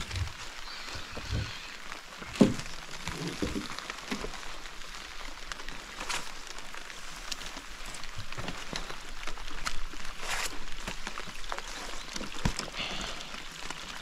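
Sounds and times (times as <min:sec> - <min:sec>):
rain drops ticking: 0:00.0 - 0:14.0.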